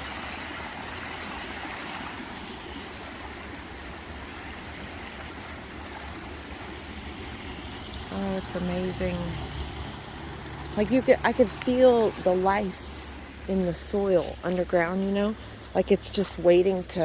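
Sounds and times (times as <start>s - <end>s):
stream and waterfall rushing: 0.0s - 17.0s.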